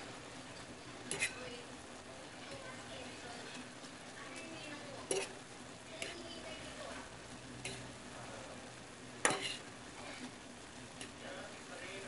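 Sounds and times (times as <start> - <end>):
noodles sizzling in a frying pan: 0.0 - 12.0.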